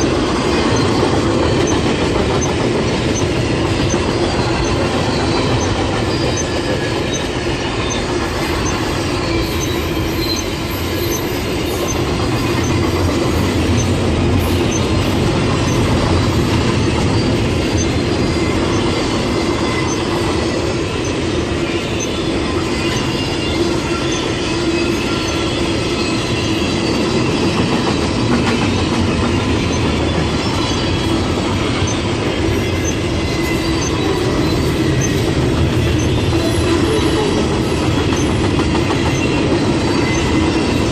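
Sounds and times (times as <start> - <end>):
train rolling past: 0.0 - 40.9
wheels squealing on rails: 0.0 - 40.9.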